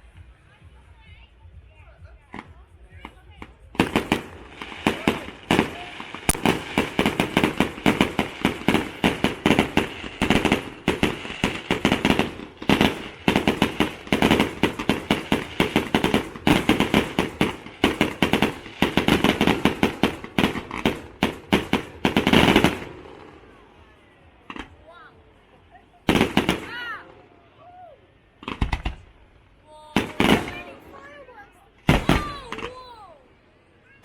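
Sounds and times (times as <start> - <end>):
fireworks bangs and crackles: 2.0 - 27.4, 28.4 - 33.0.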